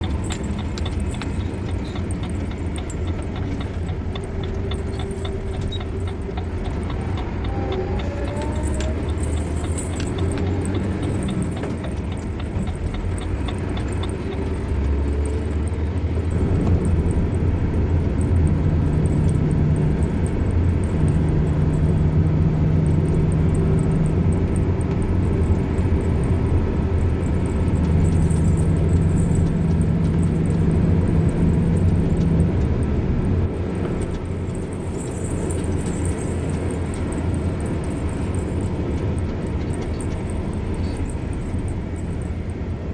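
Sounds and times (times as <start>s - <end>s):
car engine hum: 0.0s - 42.9s
road noise: 0.0s - 42.9s.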